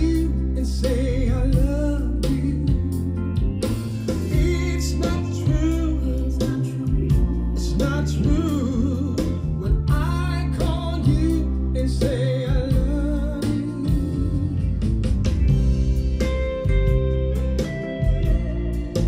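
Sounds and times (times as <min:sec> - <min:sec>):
song through speakers: 0:00.0 - 0:19.0.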